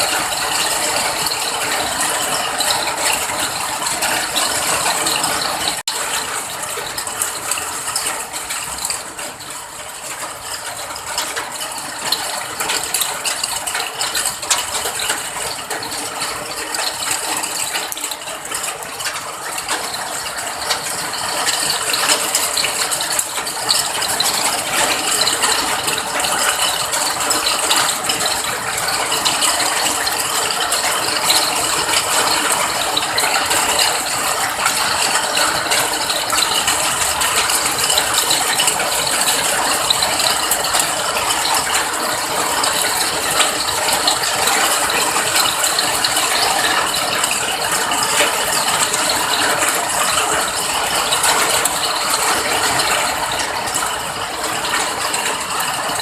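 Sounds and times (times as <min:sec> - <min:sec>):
rain pattering on hard surface: 0:00.0 - 0:56.0.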